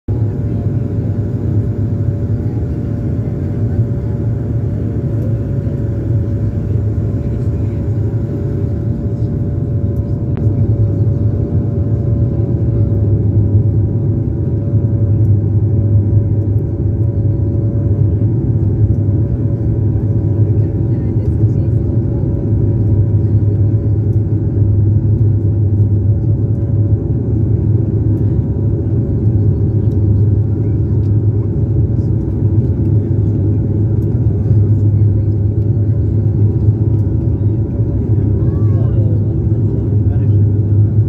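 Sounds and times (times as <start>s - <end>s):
airliner engines droning in cabin: 0.1s - 41.0s.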